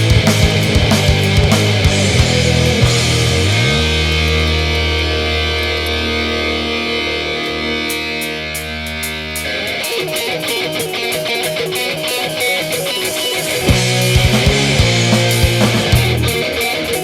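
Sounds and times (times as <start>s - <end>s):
rock music on electric guitar: 0.0s - 17.0s.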